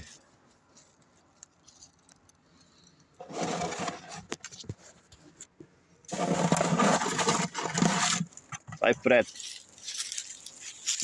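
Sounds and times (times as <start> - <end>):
armadillos scraping and rustling: 0.0 - 5.5, 6.1 - 11.0.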